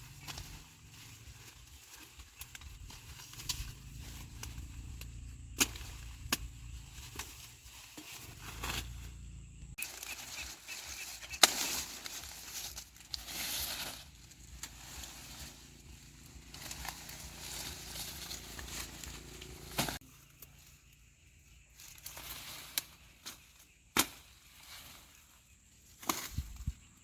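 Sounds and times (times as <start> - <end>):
rustling: 0.0 - 27.0.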